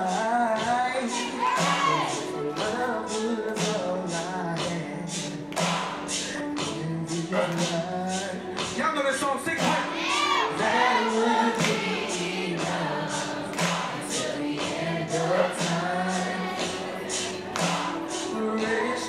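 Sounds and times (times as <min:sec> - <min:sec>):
man and woman singing duet: 0:00.0 - 0:05.6, 0:06.2 - 0:08.8, 0:09.4 - 0:19.0
backing track with steady beat: 0:00.0 - 0:19.0.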